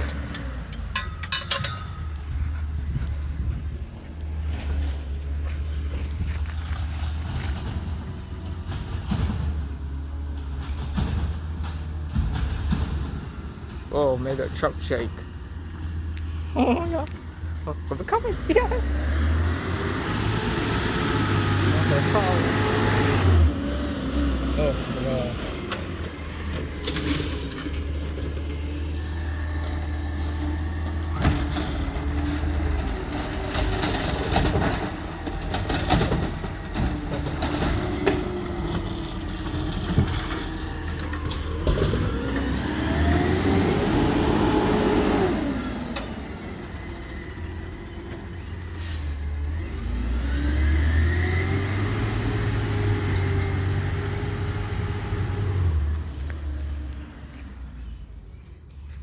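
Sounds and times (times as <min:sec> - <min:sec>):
hydraulics working: 0:00.0 - 0:58.3
truck engine running: 0:00.0 - 0:59.0.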